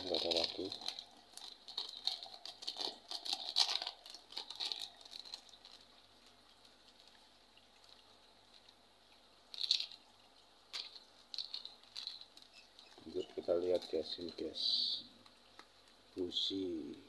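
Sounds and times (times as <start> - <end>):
plastic packaging crinkling: 0.0 - 8.8, 9.4 - 16.4.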